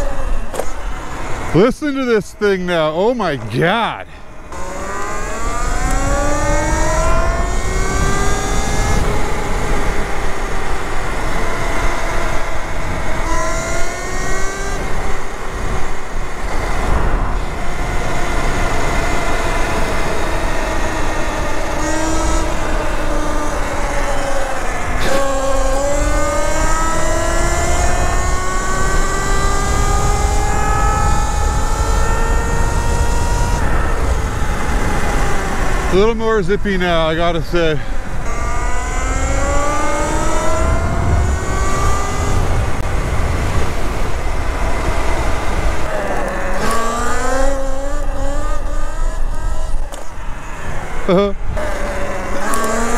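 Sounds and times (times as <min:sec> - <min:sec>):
electric motorbike motor whining: 0:04.4 - 0:36.2, 0:37.2 - 0:52.9.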